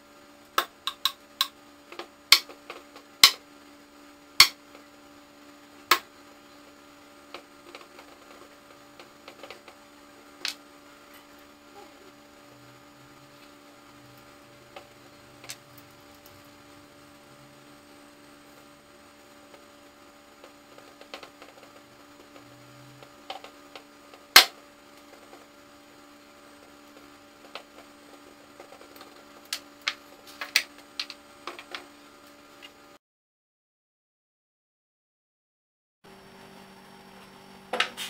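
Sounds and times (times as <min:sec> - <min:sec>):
steady electrical hum: 0:00.0 - 0:33.0, 0:36.1 - 0:38.0.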